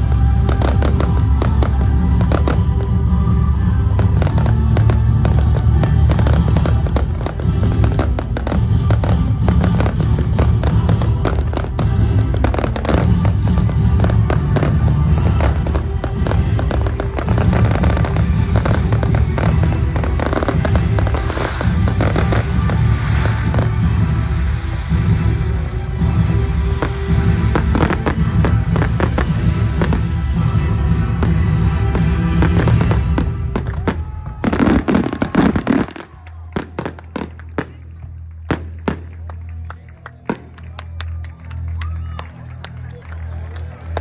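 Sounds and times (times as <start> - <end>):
fireworks bangs and crackles: 0.0 - 44.0
music: 0.0 - 44.0.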